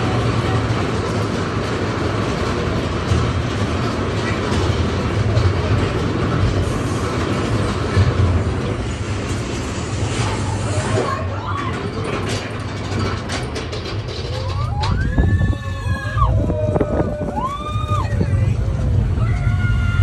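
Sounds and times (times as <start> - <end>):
ride car rumbling along track: 0.0 - 20.0.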